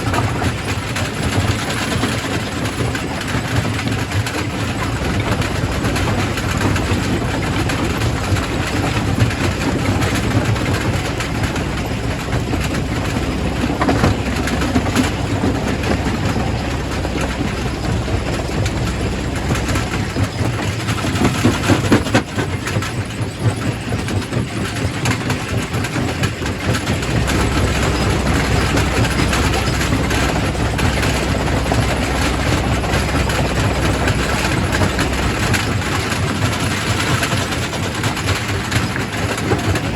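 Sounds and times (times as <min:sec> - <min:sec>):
heavy machine drone: 0:00.0 - 0:22.7, 0:25.6 - 0:39.9.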